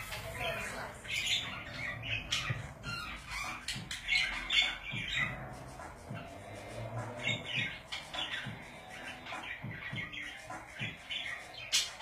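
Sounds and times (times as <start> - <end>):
budgerigars chirping and squawking: 0.0 - 12.0.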